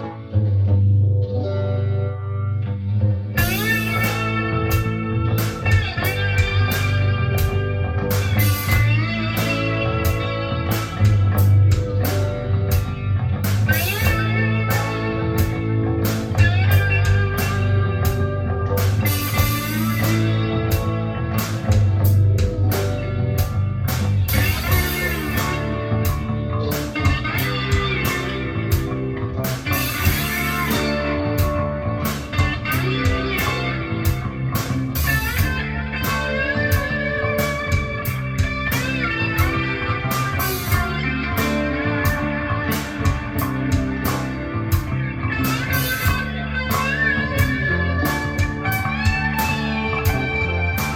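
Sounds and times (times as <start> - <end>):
guitar music through speakers: 0.0 - 50.9.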